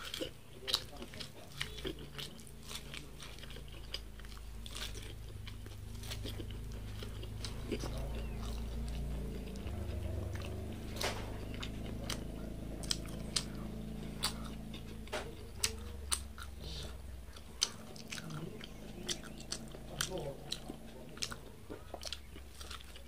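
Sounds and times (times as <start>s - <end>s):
person chewing corn on the cob: 0.0s - 23.0s.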